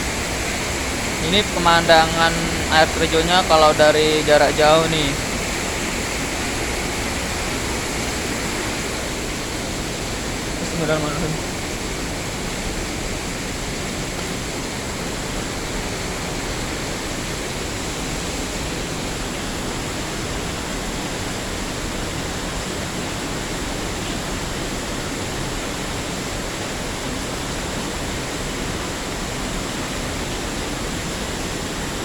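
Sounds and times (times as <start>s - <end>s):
waterfall water rushing: 0.0s - 32.0s.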